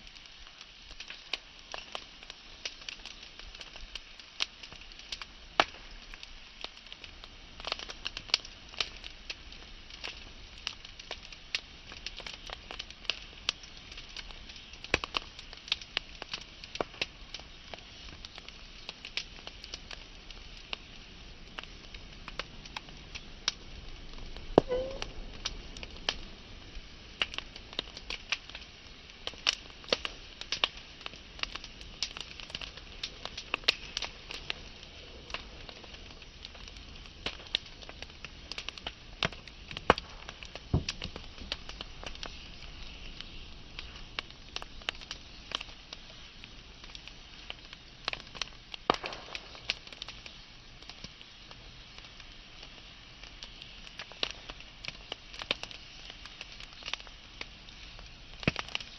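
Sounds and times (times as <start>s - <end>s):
soft steady fire hiss: 0.0s - 58.9s
wood fire crackling and popping: 0.0s - 58.9s.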